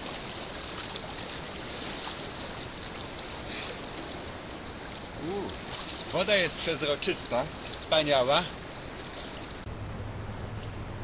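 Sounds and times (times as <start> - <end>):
faint swimming splashes: 0.0 - 9.7
hiss of water and wind: 0.0 - 11.0.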